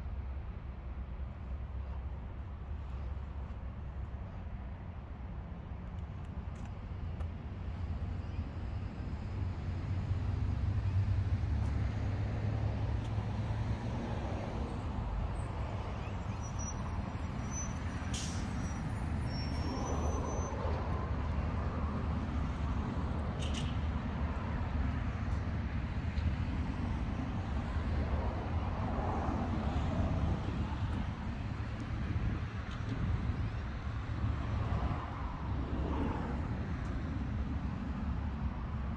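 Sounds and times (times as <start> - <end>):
road vehicle rumble: 0.0 - 38.9.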